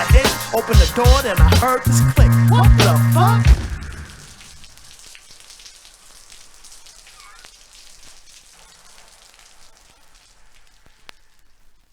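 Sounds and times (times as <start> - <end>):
steady rain falling: 0.0 - 11.9.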